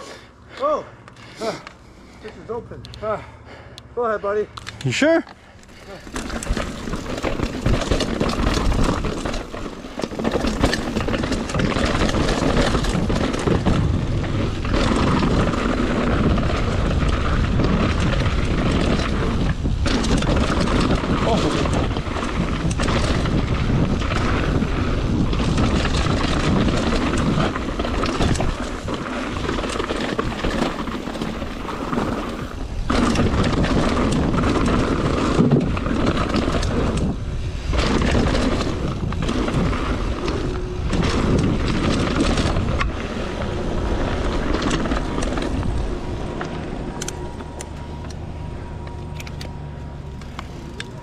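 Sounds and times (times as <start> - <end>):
bike clicks and rattles: 0.0 - 51.0
tyres crunching on gravel: 4.1 - 51.0
wind rushing over microphone: 6.0 - 49.0.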